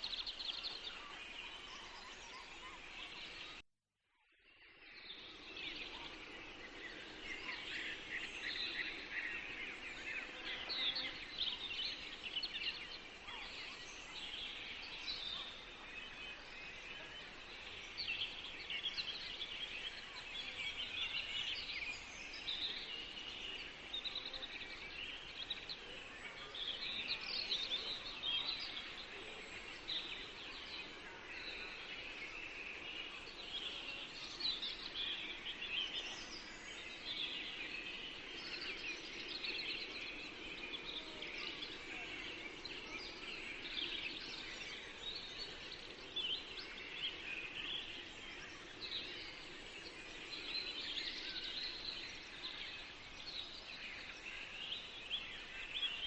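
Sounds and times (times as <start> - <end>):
birds chirping and trilling: 0.0 - 3.6, 4.6 - 56.0
faint steady hiss: 0.0 - 3.6, 4.4 - 56.0.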